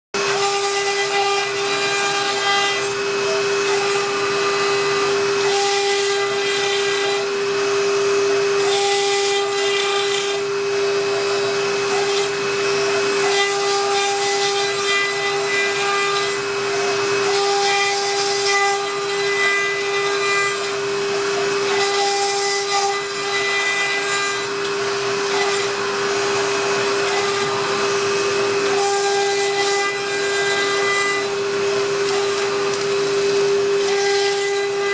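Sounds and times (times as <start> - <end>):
bit cutting sheet: 0.2 - 34.9
router spindle whine: 0.2 - 34.9.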